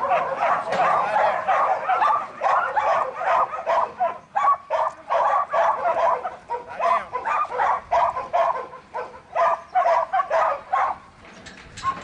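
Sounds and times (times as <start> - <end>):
dog barking: 0.0 - 11.1.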